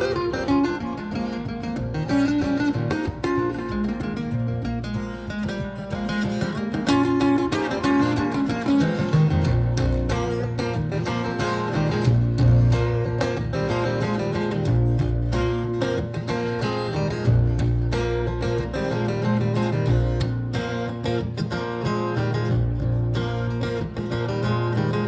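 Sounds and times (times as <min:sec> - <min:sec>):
baritone guitar playing chords: 0:00.0 - 0:25.0.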